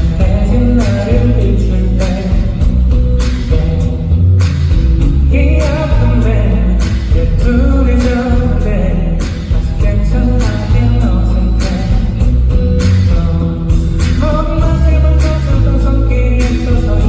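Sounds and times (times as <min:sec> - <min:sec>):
lead vocal singing: 0:00.0 - 0:04.4, 0:05.1 - 0:17.0
live rock band playing: 0:00.0 - 0:17.0.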